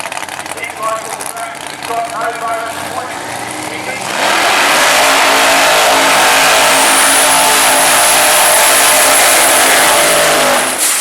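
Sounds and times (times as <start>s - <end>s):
drag car engine at full throttle: 0.0s - 11.0s.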